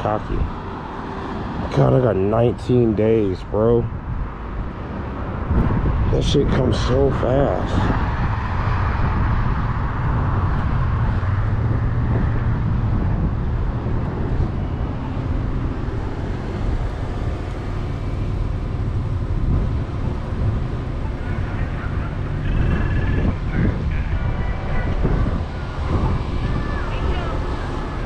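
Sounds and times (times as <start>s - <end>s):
moving vehicle rumble: 0.0s - 28.0s.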